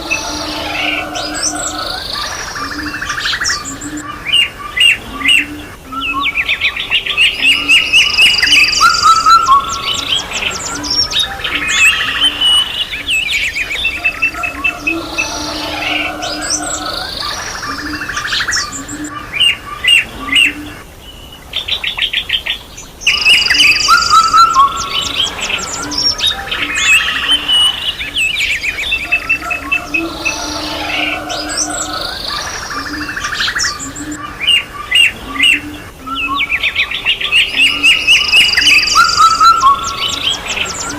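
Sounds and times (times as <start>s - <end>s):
songbirds singing and chirping: 0.0s - 40.9s.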